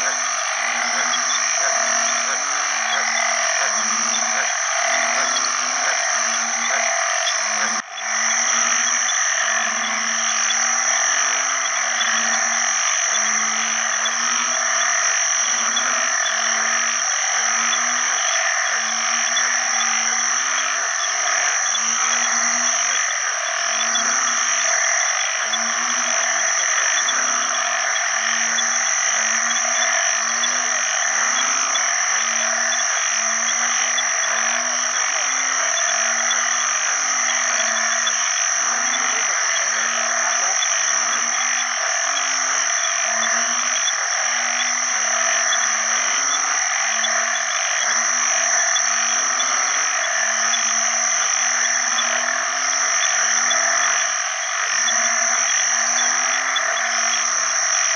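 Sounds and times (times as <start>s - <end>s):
frog chorus: 0.0s - 57.9s
frogs giving low short calls: 0.0s - 57.9s.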